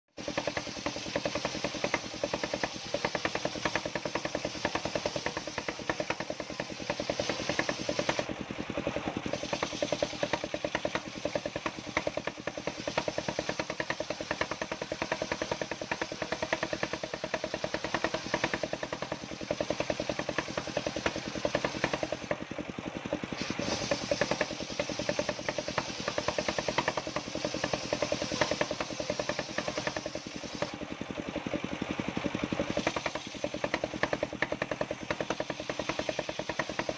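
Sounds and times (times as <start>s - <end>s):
engine pulsing rapidly: 0.1s - 36.9s.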